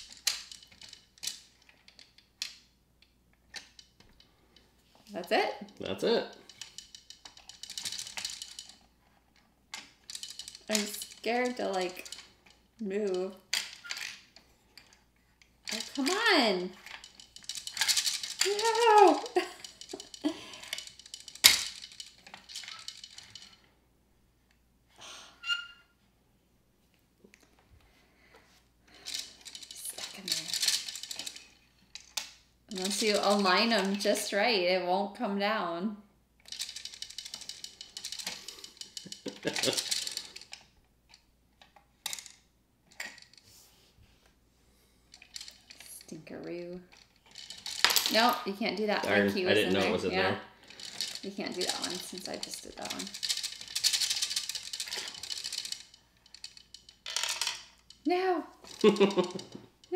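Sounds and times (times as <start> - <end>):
plastic tokens clattering: 0.0 - 2.7, 3.5 - 15.0, 15.6 - 23.7, 28.9 - 34.5, 36.4 - 40.6, 41.6 - 43.4, 45.1 - 59.9
plastic gears clicking: 0.0 - 4.3, 5.3 - 8.9, 9.7 - 23.6, 28.9 - 34.5, 36.4 - 43.4, 45.1 - 50.0, 50.6 - 59.9.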